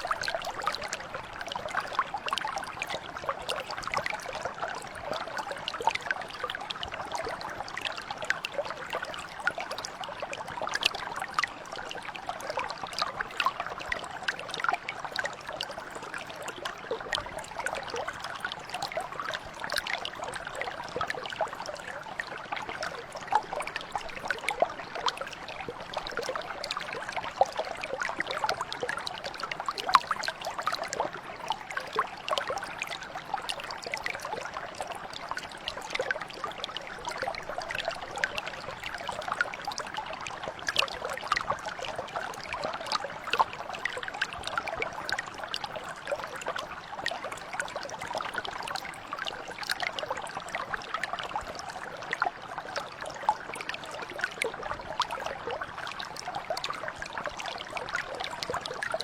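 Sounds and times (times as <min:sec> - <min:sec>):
brook trickling and splashing: 0:00.0 - 0:59.0.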